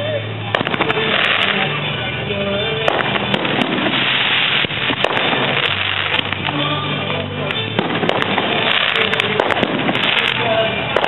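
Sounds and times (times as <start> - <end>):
fireworks exploding: 0.1 - 11.0.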